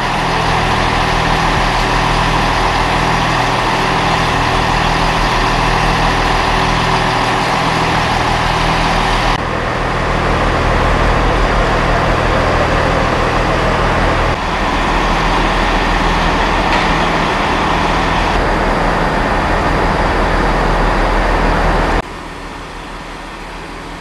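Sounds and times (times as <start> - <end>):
diesel train engine running: 0.0 - 24.0.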